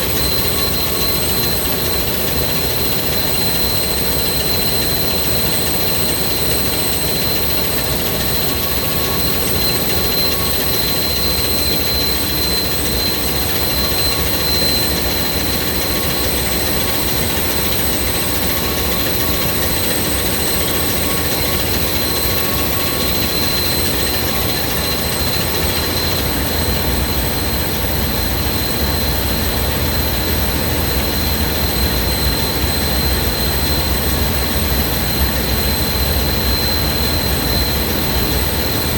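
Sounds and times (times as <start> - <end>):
ship machinery drone: 0.0 - 38.9
smoke alarm continuous tone: 0.0 - 38.9.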